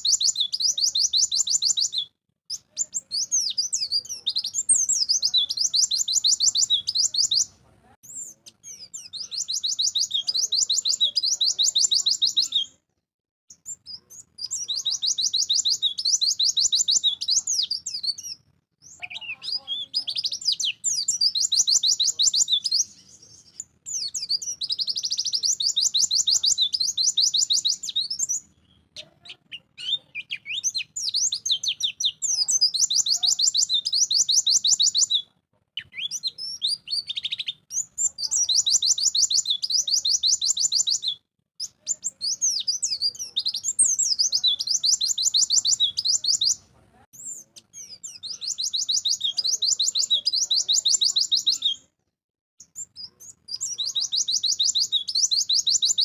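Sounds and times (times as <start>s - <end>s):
bird singing high trills: 0.0s - 7.5s, 8.1s - 12.7s, 13.6s - 28.9s, 29.6s - 35.2s, 35.8s - 46.6s, 47.2s - 51.8s.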